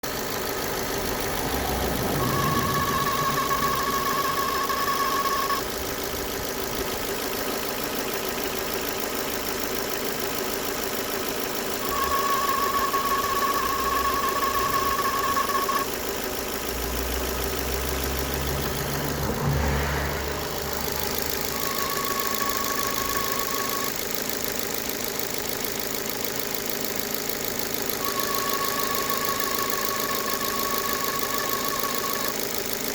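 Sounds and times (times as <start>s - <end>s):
car engine idling: 0.0s - 32.9s
high alternator whine: 0.0s - 32.9s.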